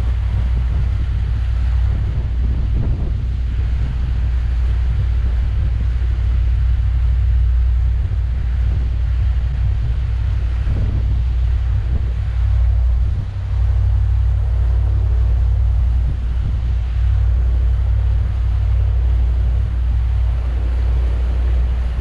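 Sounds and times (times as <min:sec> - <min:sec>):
boat engine rumbling: 0:00.0 - 0:22.0
water along hull: 0:00.0 - 0:22.0
wind buffeting microphone: 0:00.0 - 0:22.0.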